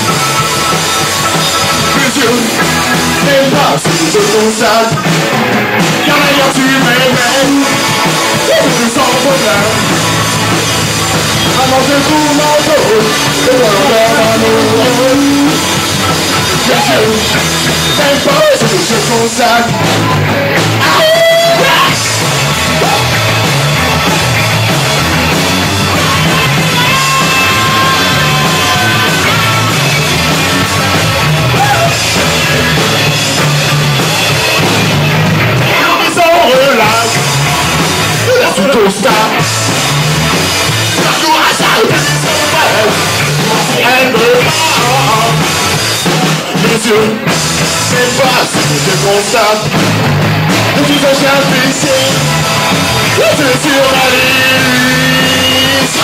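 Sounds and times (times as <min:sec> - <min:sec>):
pitch-bending lead line: 0:00.0 - 0:56.0
rock band playing: 0:00.0 - 0:56.0.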